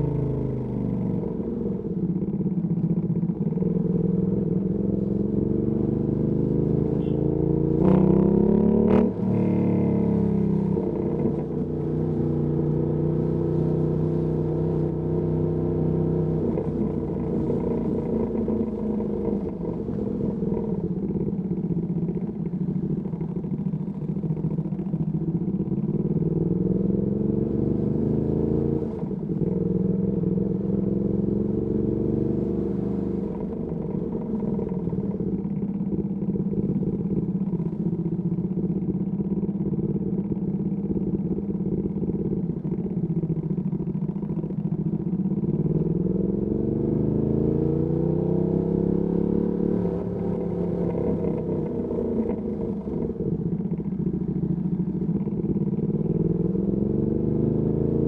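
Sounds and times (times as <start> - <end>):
motorcycle engine revving: 3.6 - 37.8, 40.6 - 58.0.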